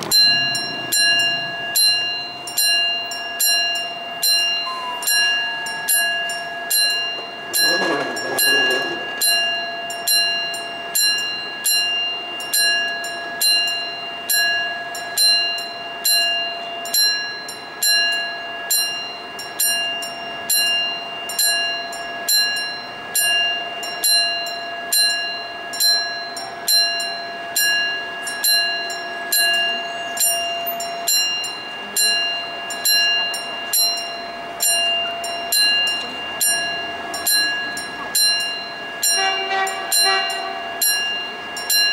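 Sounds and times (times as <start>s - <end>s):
level crossing bell ringing: 0.0s - 41.9s.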